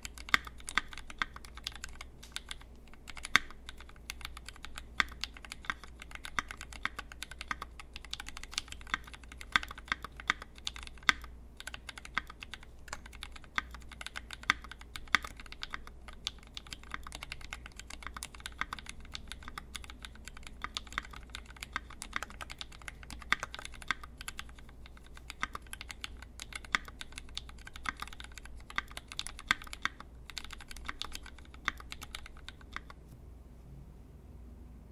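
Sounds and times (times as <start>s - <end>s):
mechanical keyboard typing: 0.0s - 33.0s.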